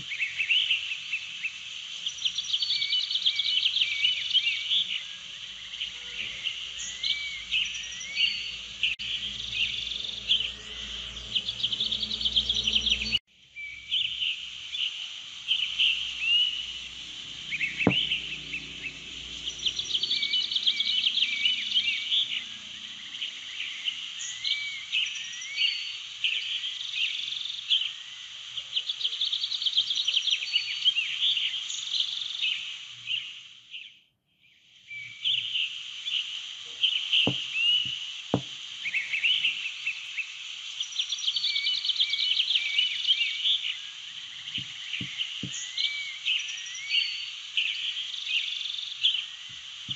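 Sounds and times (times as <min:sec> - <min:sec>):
insects trilling: 0:00.0 - 0:33.6, 0:34.8 - 0:49.9
birds chirping and singing: 0:00.0 - 0:34.0, 0:36.8 - 0:40.1, 0:40.9 - 0:49.4.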